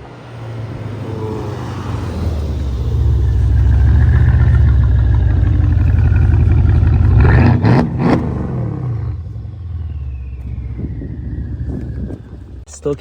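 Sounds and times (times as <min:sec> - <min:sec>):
car engine running: 0:00.0 - 0:12.6.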